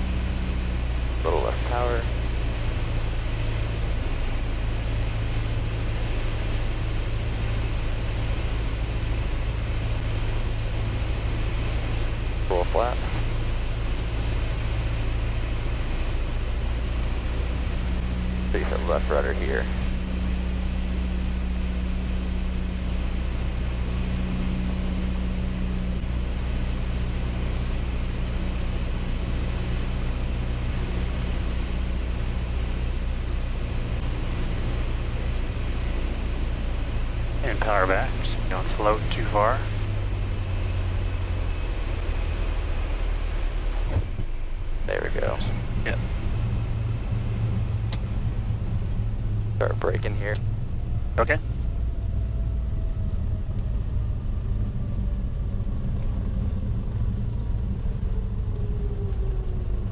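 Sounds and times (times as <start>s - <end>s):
aircraft engine and propeller droning: 0.0s - 59.9s.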